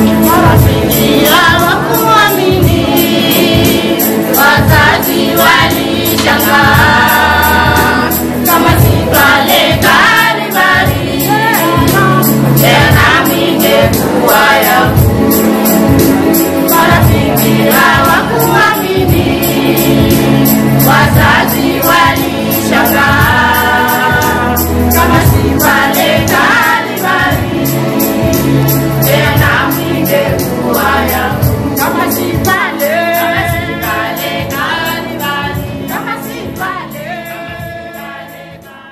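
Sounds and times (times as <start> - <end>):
choir singing gospel music: 0.0 - 38.9.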